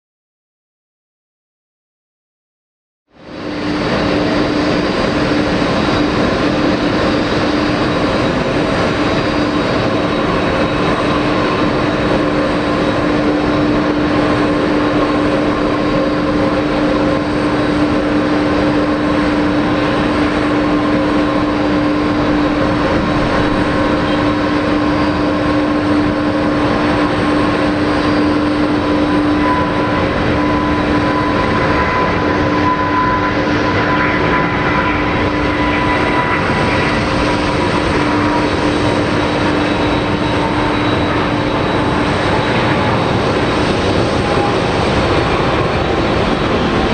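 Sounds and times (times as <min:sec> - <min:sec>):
high engine whine: 0:03.1 - 0:46.9
jet engines roaring: 0:03.1 - 0:46.9.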